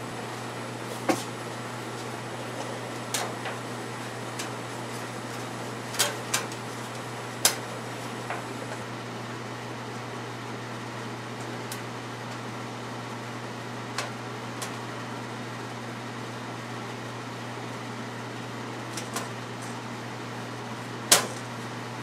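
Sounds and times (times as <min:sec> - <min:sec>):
steady low fan hum: 0:00.0 - 0:22.0.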